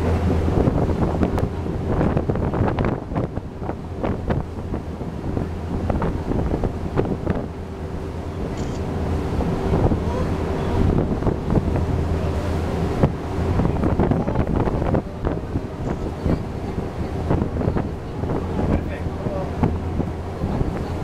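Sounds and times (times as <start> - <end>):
low engine drone: 0.0 - 21.0
wind buffeting microphone: 0.0 - 21.0.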